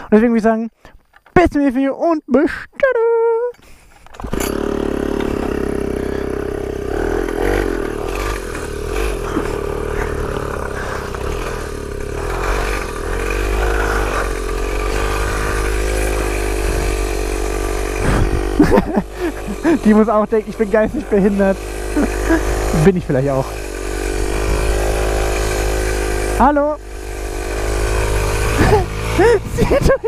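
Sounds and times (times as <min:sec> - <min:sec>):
small two-stroke engine running: 0:03.7 - 0:30.0.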